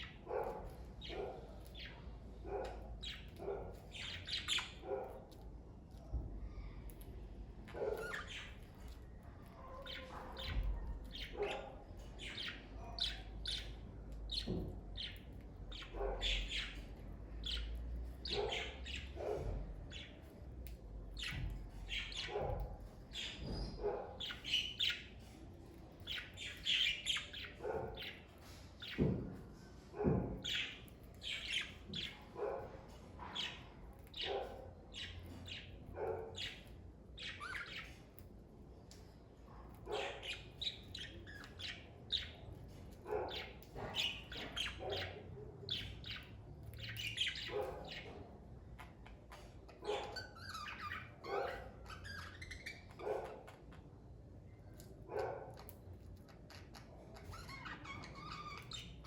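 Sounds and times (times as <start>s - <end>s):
budgerigars chirping and squawking: 0.0s - 5.5s, 6.1s - 29.2s, 30.0s - 54.0s, 54.7s - 59.0s.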